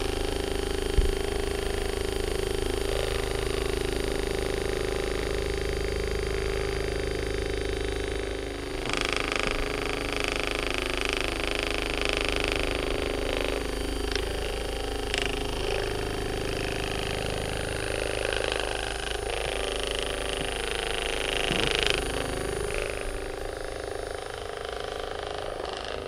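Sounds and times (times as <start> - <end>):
massage gun buzzing and hammering: 0.0 - 26.0.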